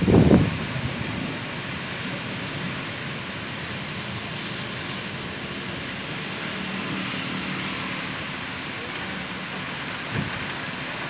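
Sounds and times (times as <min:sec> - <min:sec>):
heavy rain with wind: 0:00.0 - 0:11.0.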